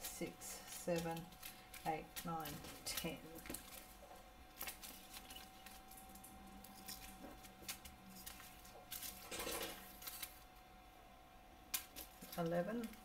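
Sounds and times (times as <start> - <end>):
plastic bags crinkling: 0.6 - 10.4, 11.8 - 13.0.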